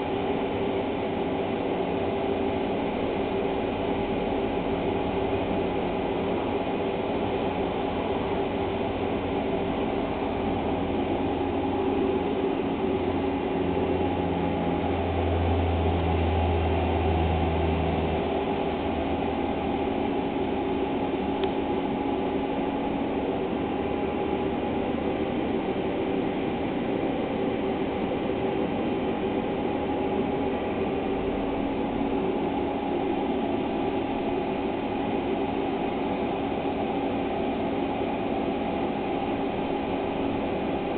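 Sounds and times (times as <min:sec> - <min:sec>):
machine drone with hum tones: 0:00.0 - 0:40.9.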